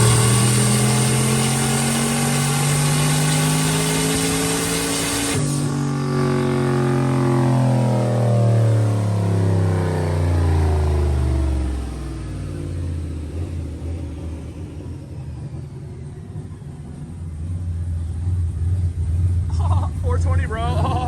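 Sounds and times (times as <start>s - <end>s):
car engine revving down: 0.0s - 21.0s.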